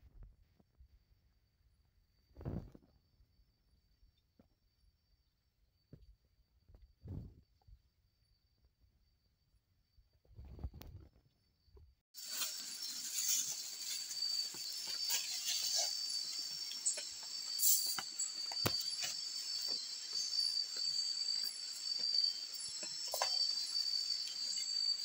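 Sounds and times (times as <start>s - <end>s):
crickets chirping: 0.8s - 25.0s.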